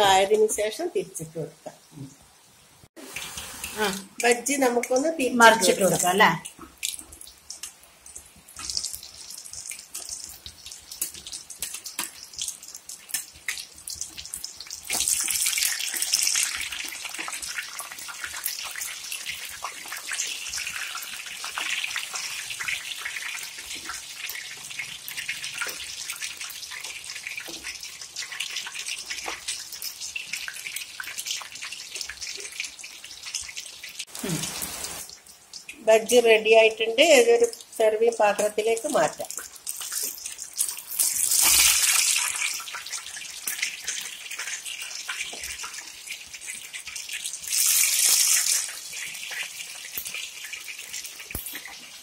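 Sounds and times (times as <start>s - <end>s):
chillies deep-frying in hot oil: 0.0s - 52.0s.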